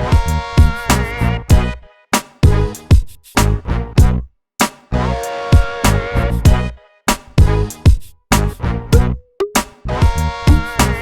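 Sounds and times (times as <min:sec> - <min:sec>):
steady drum beat: 0:00.0 - 0:04.9, 0:05.6 - 0:11.0.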